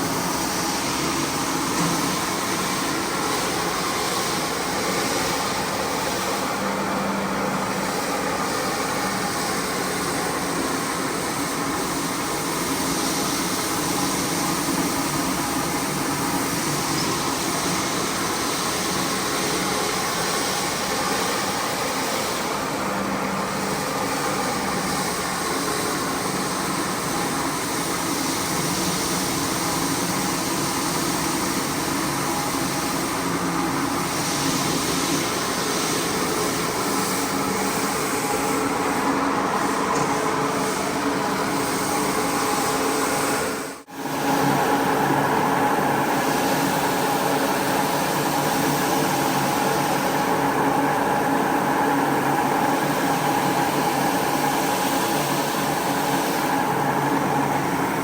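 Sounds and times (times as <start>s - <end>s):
carpet cleaning machine running: 0.0s - 58.0s.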